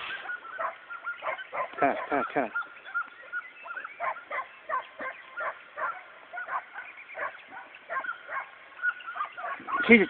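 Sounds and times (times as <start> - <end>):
hunting dogs yelping and baying: 0.0 - 10.0.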